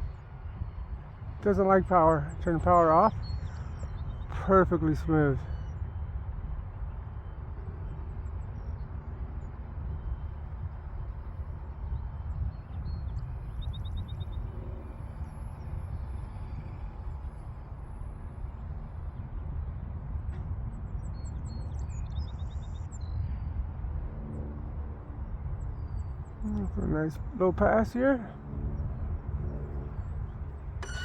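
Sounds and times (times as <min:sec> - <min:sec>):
wind rumbling on microphone: 0:00.0 - 0:31.0.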